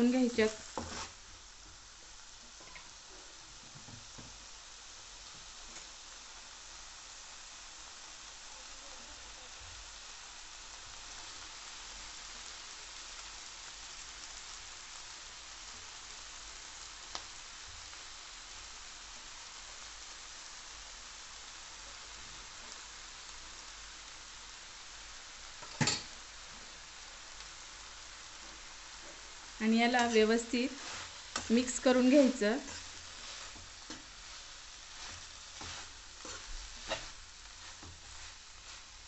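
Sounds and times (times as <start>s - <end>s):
vegetables sizzling in a frying pan: 0.0s - 39.0s.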